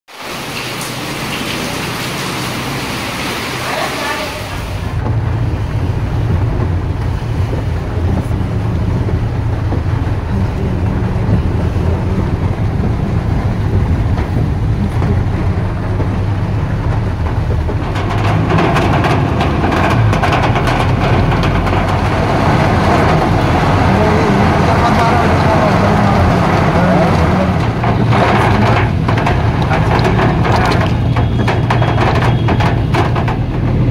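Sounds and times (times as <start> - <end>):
rain on car and wet tyres: 0.1 - 33.9
rain on pavement: 0.1 - 33.9
car engine and road rumble: 4.7 - 33.9.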